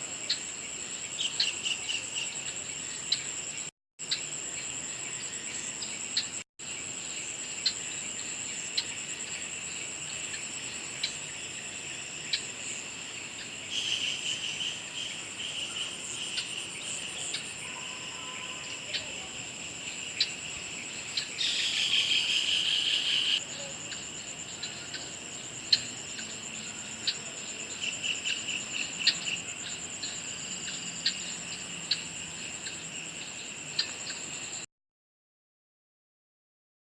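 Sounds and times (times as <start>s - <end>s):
insects trilling: 0.0s - 34.7s.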